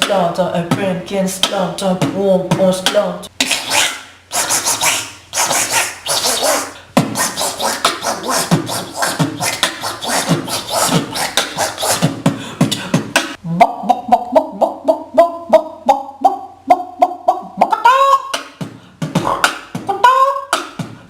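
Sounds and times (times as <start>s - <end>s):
beatboxing beat: 0.0s - 21.0s.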